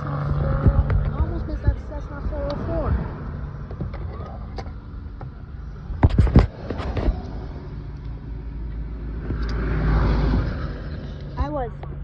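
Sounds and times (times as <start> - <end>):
twin piston aircraft engines rumbling: 0.0 - 12.0.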